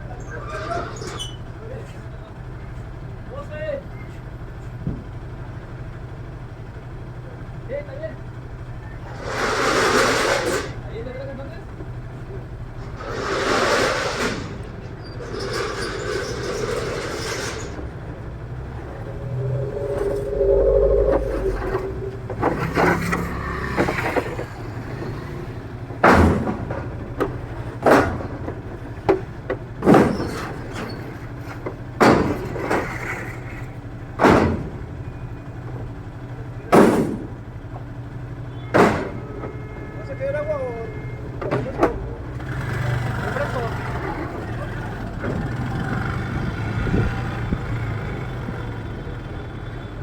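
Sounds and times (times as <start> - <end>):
street traffic: 0.0 - 50.0.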